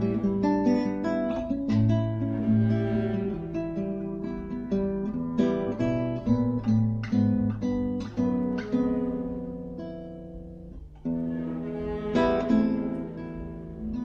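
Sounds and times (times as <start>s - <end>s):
classical guitar plucked notes and chords: 0.0s - 14.0s.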